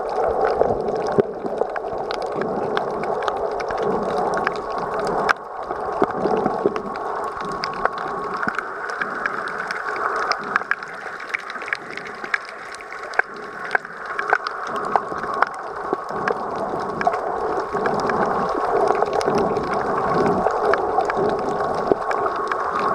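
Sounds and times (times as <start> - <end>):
muffled underwater rushing hiss: 0.0 - 22.9
sharp underwater clicks and crackles: 0.0 - 22.9.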